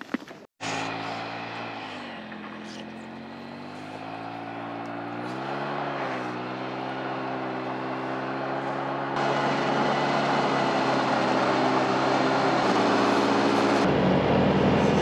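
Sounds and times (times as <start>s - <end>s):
vehicle engine running: 0.6s - 15.0s.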